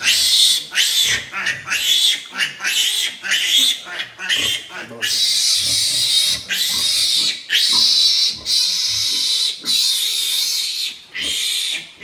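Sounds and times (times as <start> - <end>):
piglet squealing: 0.0 - 12.0.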